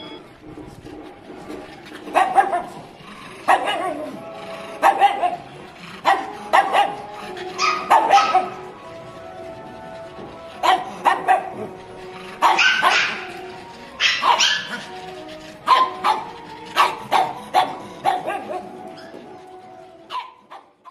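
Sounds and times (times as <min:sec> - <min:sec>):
background music with held notes: 0:00.0 - 0:20.9
dogs barking: 0:01.4 - 0:20.9.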